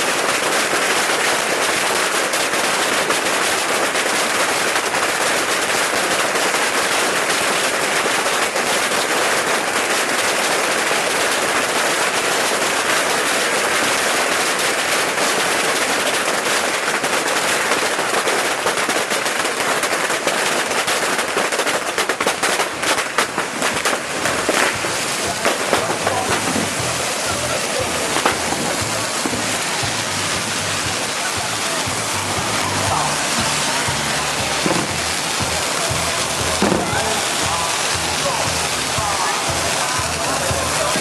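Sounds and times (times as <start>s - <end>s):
fireworks crackling and banging: 0.0s - 41.0s.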